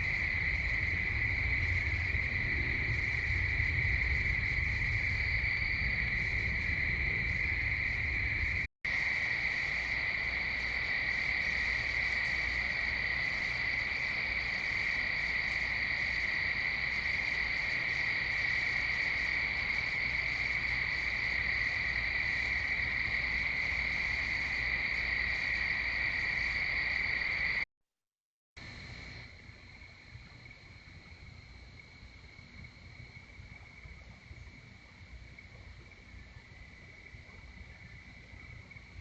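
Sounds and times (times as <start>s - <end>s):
crickets trilling: 0.0s - 27.7s, 28.6s - 39.0s.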